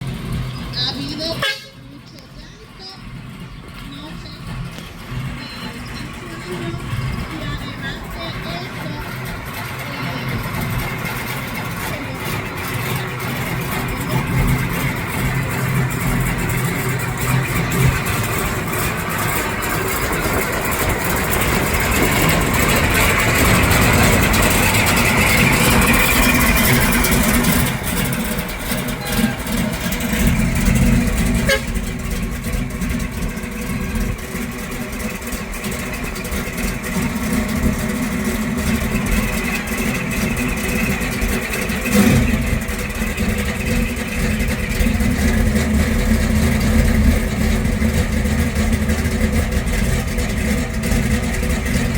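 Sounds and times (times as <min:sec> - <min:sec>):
car engine rumbling: 0:00.0 - 0:51.9.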